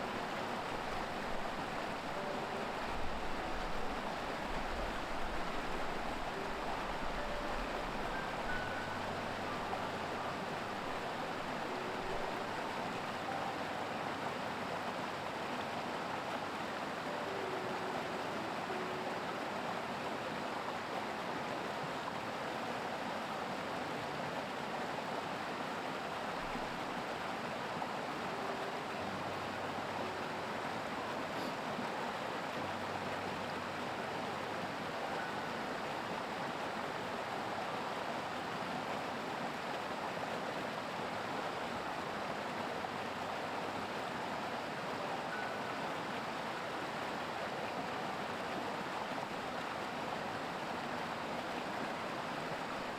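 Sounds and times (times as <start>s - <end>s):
creek water rushing: 0.0s - 52.9s.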